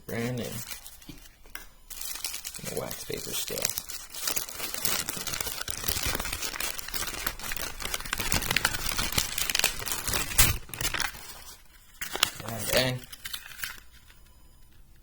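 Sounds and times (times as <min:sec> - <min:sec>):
wax paper crinkling: 0:00.1 - 0:15.0.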